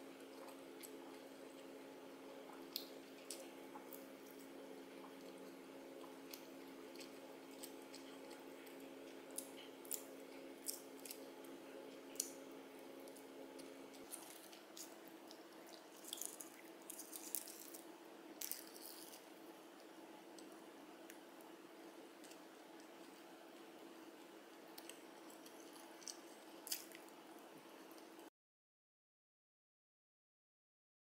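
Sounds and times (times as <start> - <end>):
low steady hum: 0.0 - 28.3
soft chewing: 0.1 - 28.3.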